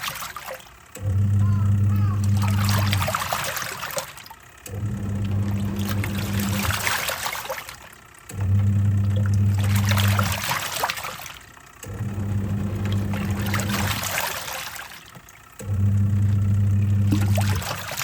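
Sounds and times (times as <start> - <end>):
washing machine motor humming: 0.0 - 18.0
water sloshing and splashing: 0.0 - 18.0.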